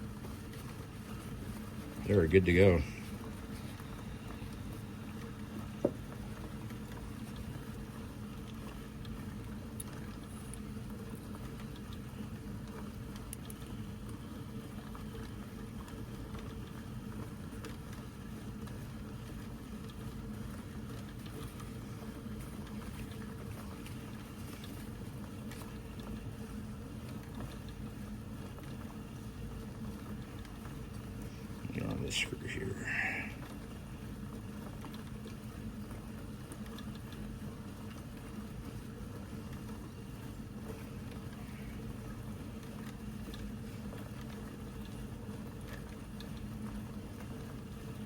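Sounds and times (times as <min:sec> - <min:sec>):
steady low hum: 0:00.0 - 0:15.6, 0:19.2 - 0:35.8, 0:38.6 - 0:45.4.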